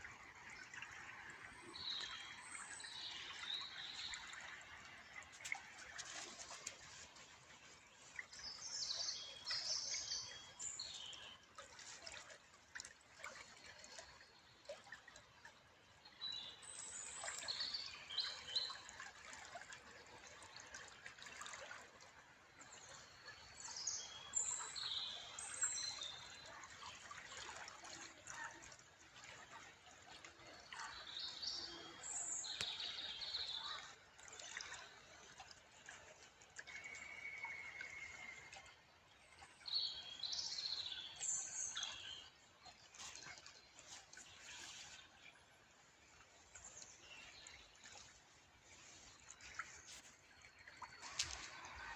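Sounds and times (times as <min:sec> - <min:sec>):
songbirds chirping and twittering: 0:00.0 - 0:51.9
trickle of running water: 0:00.0 - 0:51.9.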